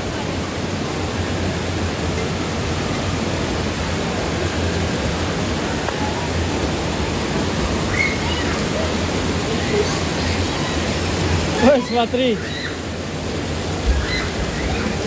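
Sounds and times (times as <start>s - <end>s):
water spraying and splashing: 0.0s - 15.0s.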